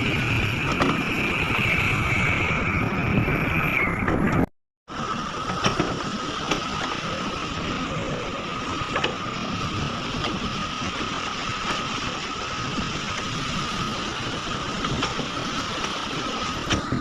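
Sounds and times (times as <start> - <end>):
excavator running: 0.0 - 17.0
high whine: 0.0 - 17.0.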